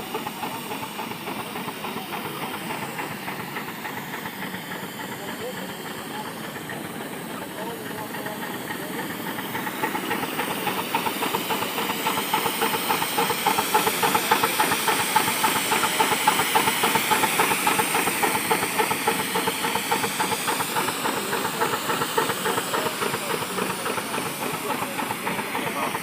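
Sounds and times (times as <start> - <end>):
steam engine exhaust chuffs: 0.0 - 26.0
steam hissing: 0.0 - 26.0.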